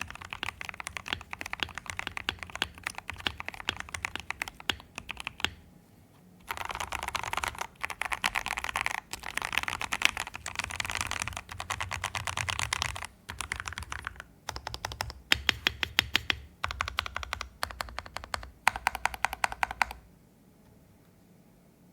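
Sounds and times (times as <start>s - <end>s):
mechanical keyboard typing: 0.0s - 5.6s, 6.4s - 20.0s.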